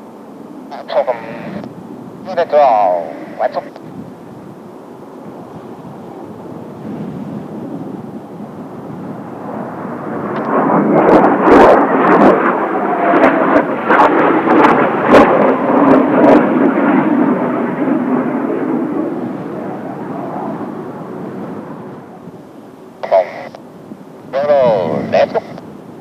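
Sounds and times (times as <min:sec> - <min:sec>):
wind buffeting microphone: 0:00.0 - 0:22.8, 0:23.6 - 0:26.0
jet flying past: 0:00.0 - 0:26.0.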